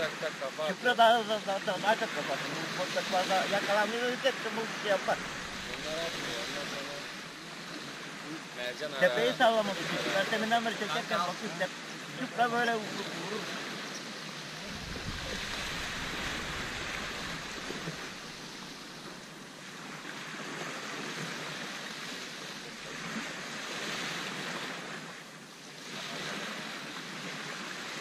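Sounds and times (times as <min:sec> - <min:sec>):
waves breaking on sandy beach: 0:00.0 - 0:28.0.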